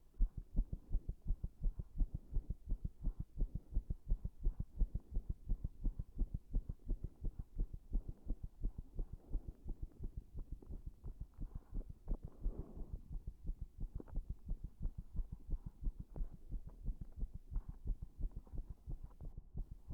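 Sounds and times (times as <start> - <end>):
fast heartbeat thumps: 0.0 - 19.9.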